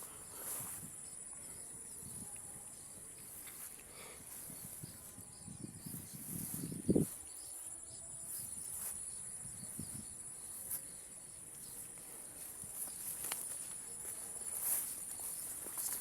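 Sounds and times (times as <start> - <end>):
chorus of insects: 0.0 - 16.0.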